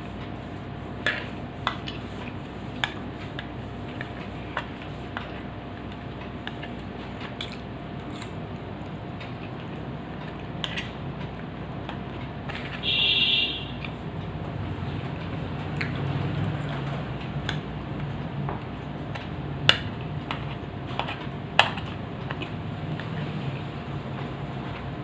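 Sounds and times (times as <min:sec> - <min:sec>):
chewing: 0:01.0 - 0:12.8, 0:15.1 - 0:24.9.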